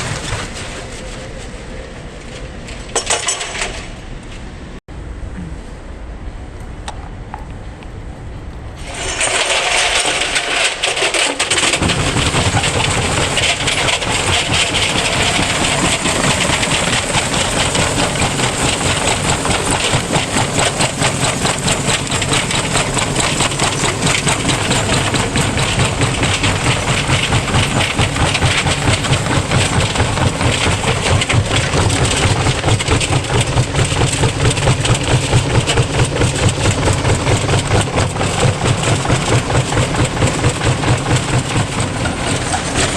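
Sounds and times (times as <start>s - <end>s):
washing machine banging and rattling: 2.9s - 4.0s, 8.8s - 42.9s.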